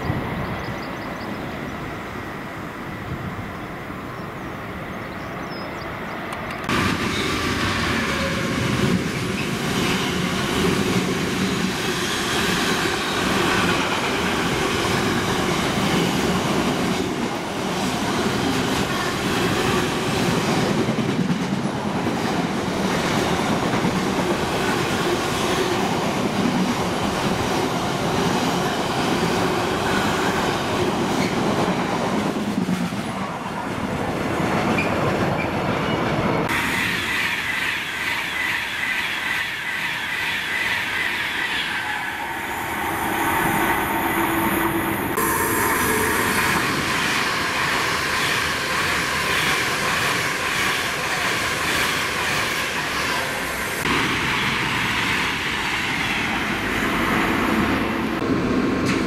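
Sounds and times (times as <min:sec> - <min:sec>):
electric train approaching: 0:00.0 - 0:59.0
freight train rumbling past: 0:00.0 - 0:59.0.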